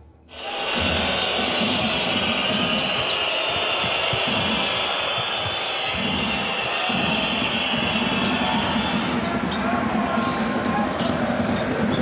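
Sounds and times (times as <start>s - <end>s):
arena crowd noise: 0.3s - 12.0s.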